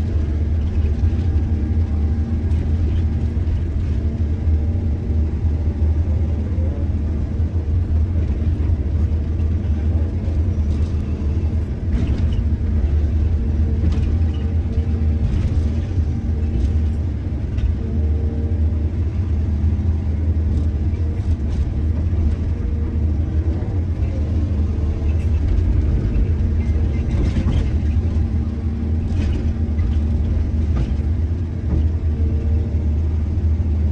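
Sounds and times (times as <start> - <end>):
diesel excavator engine rumbling: 0.0 - 33.9.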